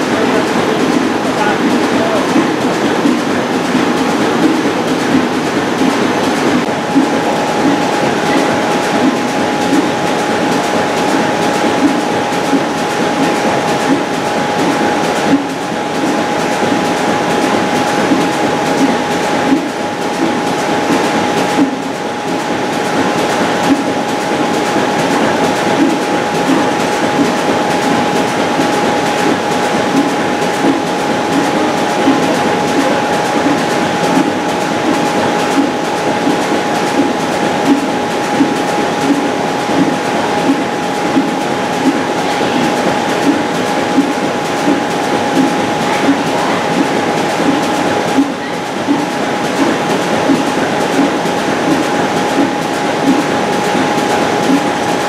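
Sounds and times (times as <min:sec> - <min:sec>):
high whine: 0:00.0 - 0:55.0.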